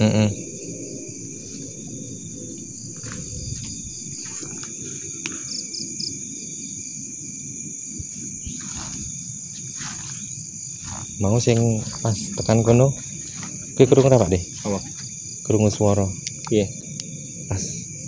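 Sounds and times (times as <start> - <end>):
low background rumble: 0.0 - 14.5
insects trilling: 0.0 - 18.0.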